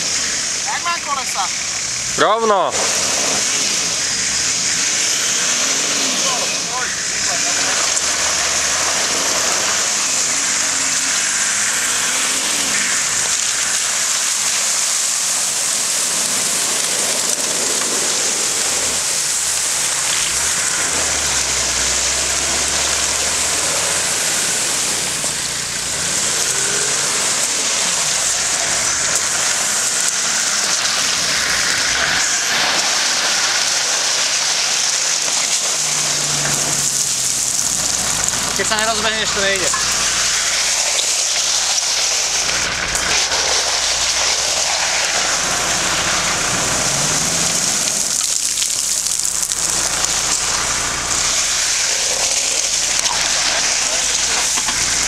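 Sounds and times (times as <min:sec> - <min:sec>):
vehicle engine running: 0:00.0 - 0:55.0
water splashing: 0:00.0 - 0:55.0.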